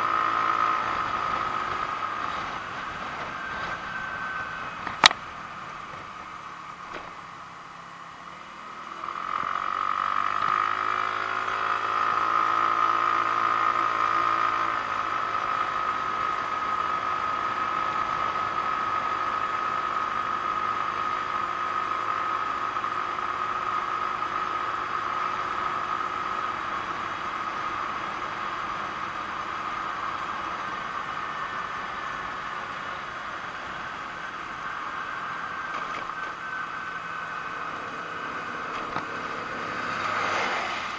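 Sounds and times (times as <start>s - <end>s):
scooter engine whining: 0.0s - 40.9s.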